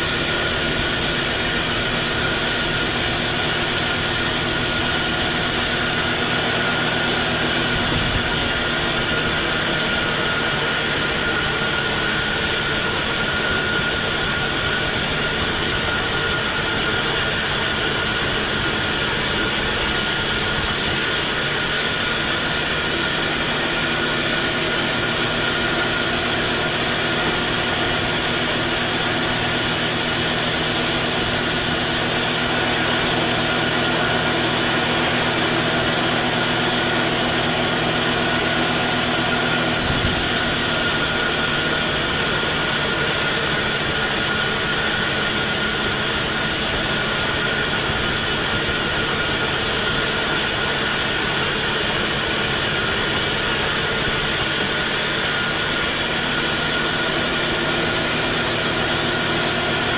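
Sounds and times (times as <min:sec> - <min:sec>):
band saw cutting log: 0:00.0 - 0:59.9.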